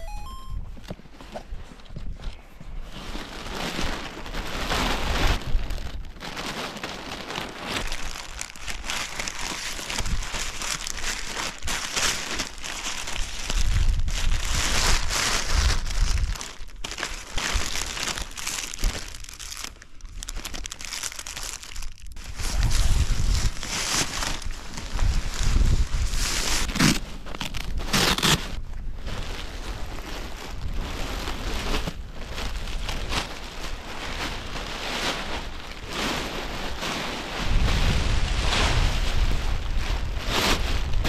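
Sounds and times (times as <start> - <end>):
plastic packaging crinkling: 2.9 - 41.0.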